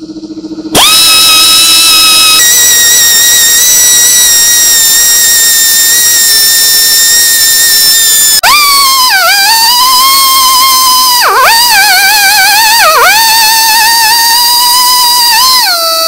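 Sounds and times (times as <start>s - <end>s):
die grinder whining: 0.8s - 16.0s.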